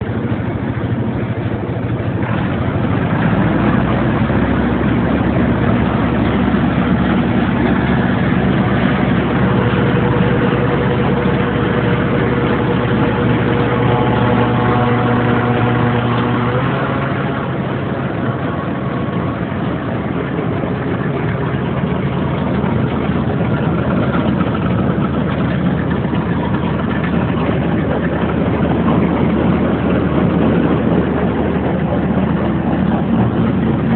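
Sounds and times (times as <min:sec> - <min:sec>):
tractor engine running grinder mixer: 0:00.0 - 0:33.9.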